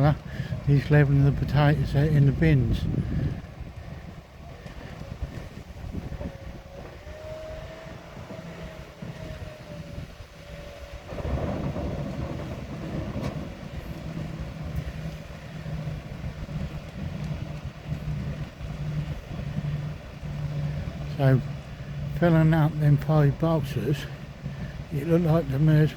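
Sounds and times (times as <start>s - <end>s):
harvester machinery rumbling and rattling: 0.0s - 25.9s.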